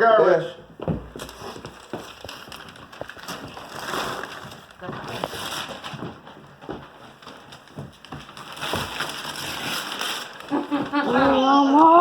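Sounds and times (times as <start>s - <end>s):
wrapping paper tearing and crumpling: 1.2s - 6.1s, 7.2s - 12.0s.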